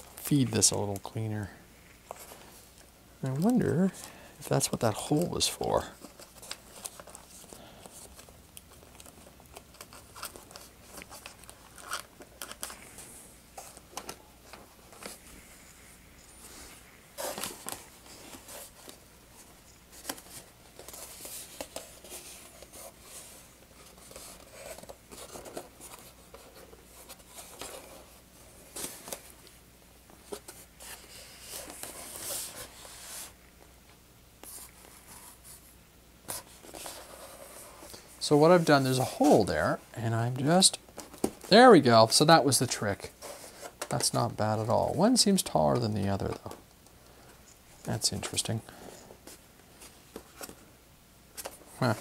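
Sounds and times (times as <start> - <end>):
rustling and scraping of foam model: 0.0 - 33.6, 34.4 - 50.7, 51.3 - 52.0.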